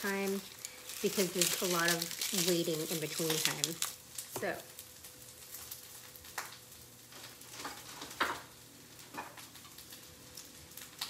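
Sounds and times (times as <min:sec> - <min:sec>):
faint sizzling in a frying pan: 0:00.0 - 0:11.0.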